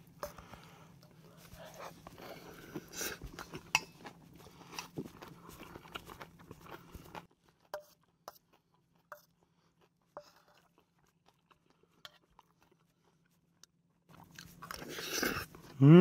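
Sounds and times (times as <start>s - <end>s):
soft eating sounds: 0.0s - 16.0s.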